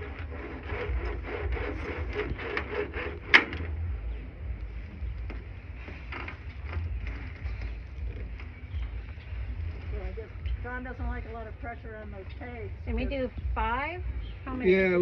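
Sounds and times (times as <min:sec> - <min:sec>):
rope rubbing and scraping: 0:00.0 - 0:13.5
steady low rumble: 0:00.0 - 0:15.0.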